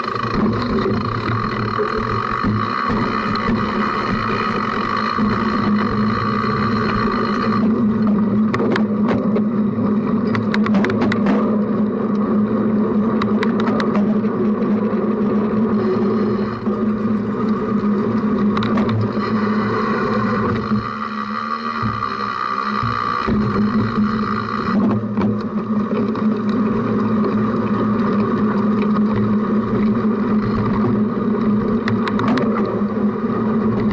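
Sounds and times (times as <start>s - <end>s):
bike tyres rolling hum: 0.0s - 33.9s.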